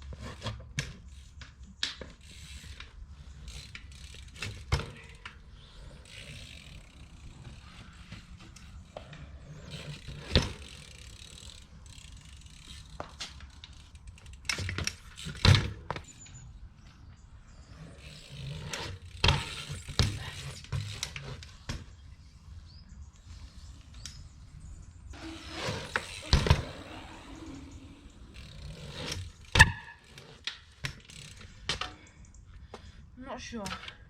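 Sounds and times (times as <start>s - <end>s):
bike tyres rumbling on ground: 0.1s - 22.2s, 25.1s - 32.0s.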